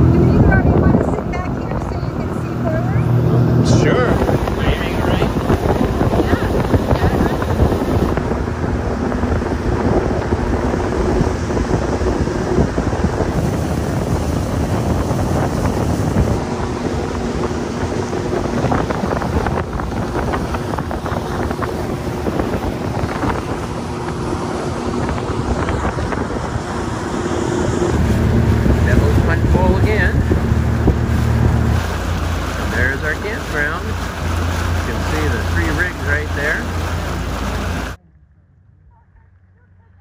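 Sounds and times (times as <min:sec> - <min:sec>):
water rushing past hull: 0:00.0 - 0:38.0
wind buffeting microphone: 0:00.0 - 0:38.0
motorboat engine hum: 0:00.0 - 0:40.0.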